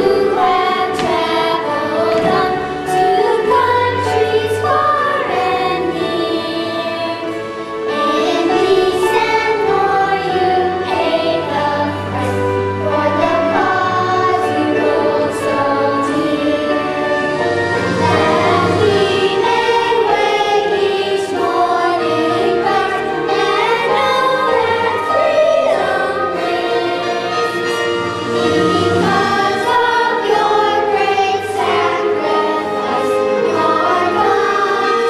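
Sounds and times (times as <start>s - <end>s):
children's choir singing: 0.0s - 35.0s
musical accompaniment: 0.0s - 35.0s.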